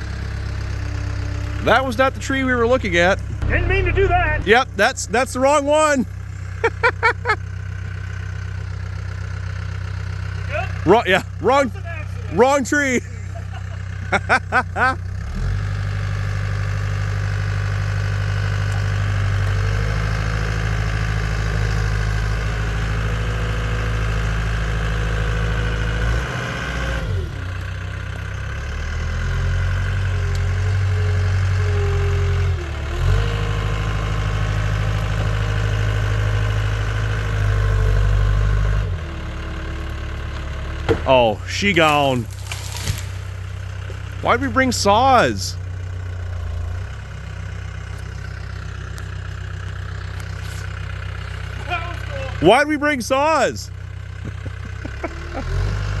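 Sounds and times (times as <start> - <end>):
diesel engine running at high revs: 0.0 - 56.0.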